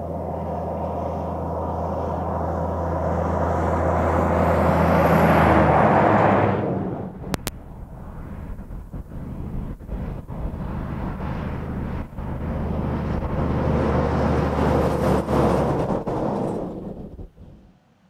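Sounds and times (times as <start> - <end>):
diesel truck engine passing: 0.0 - 18.0
tyre and road noise: 0.9 - 17.9.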